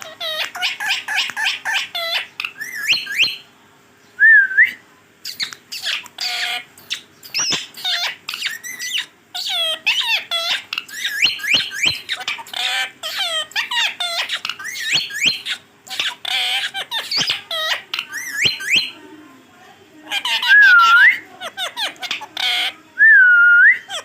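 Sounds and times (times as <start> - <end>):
parakeet squawking and chirping: 0.0 - 3.5, 5.2 - 19.0, 20.0 - 22.8, 23.8 - 24.0.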